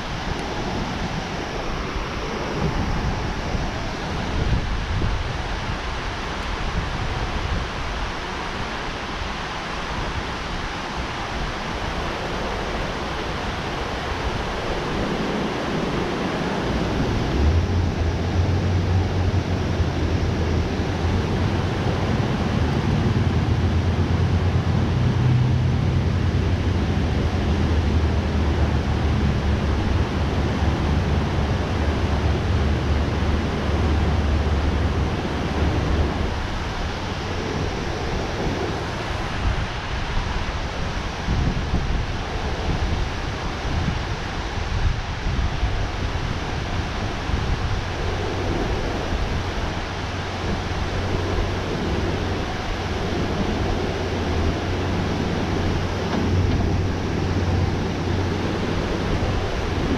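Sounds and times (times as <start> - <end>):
rushing water from spillway: 0.0 - 59.9
wind rumble on microphone: 0.0 - 59.9.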